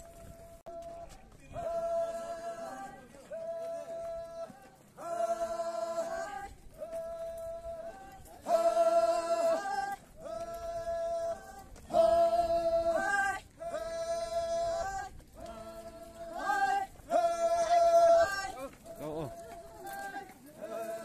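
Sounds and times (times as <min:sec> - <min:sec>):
choir singing unaccompanied: 0:01.5 - 0:21.0.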